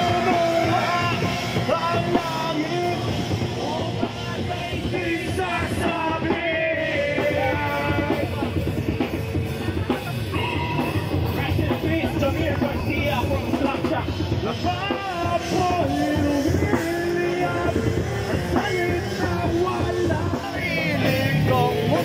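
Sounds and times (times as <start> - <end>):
person singing through microphone: 0.0 - 8.8, 10.5 - 22.0
live rock band: 0.0 - 22.0.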